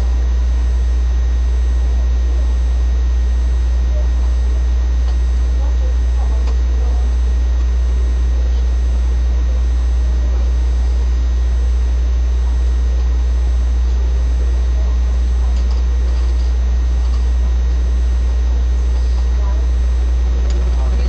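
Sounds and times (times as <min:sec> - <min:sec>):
low-pitched hum: 0:00.0 - 0:21.0.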